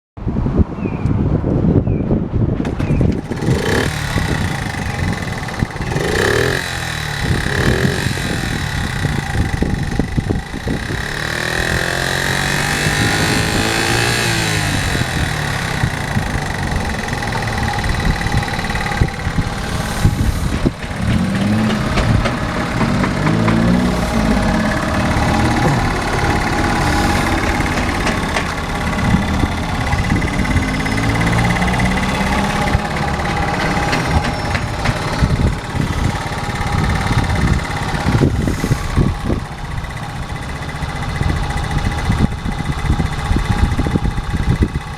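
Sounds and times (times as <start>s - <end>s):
small engine revving and idling: 2.6s - 44.9s.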